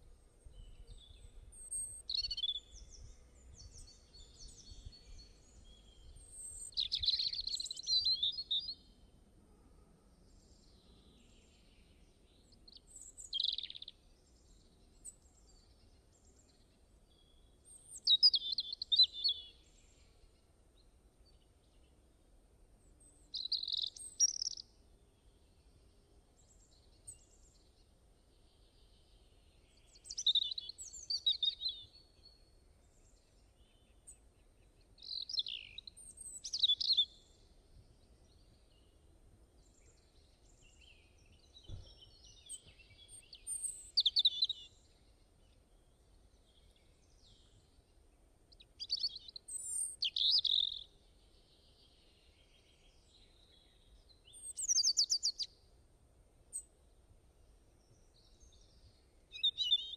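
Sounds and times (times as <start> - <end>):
faint steady hiss: 0.0 - 59.9
songbird chirping and trilling: 0.1 - 9.2, 10.2 - 22.2, 22.8 - 55.7, 56.5 - 59.9.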